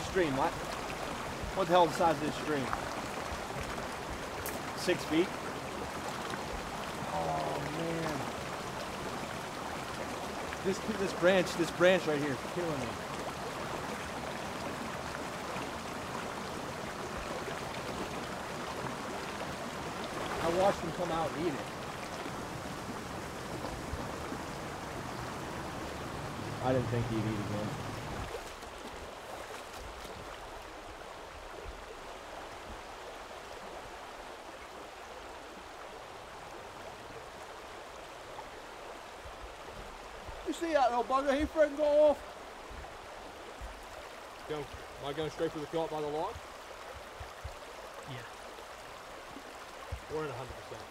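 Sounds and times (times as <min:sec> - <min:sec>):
stream rushing over cascade: 0:00.0 - 0:50.9.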